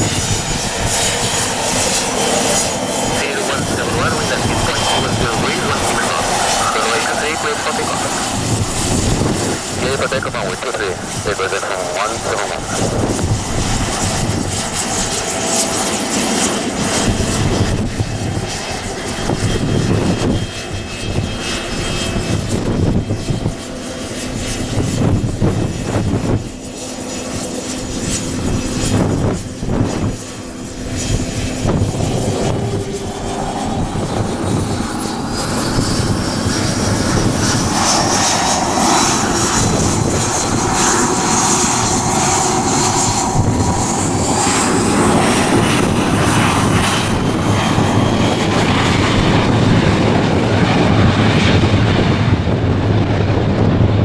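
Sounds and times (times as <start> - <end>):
jet engines whining and rumbling: 0.0 - 54.0.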